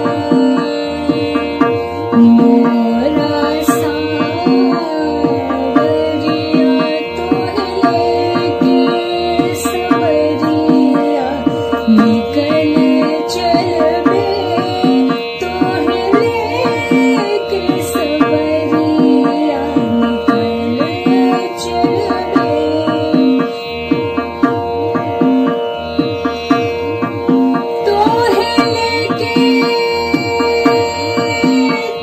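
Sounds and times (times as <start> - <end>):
woman singing: 0.0 - 23.6, 27.8 - 32.0
tabla rhythm: 0.0 - 32.0.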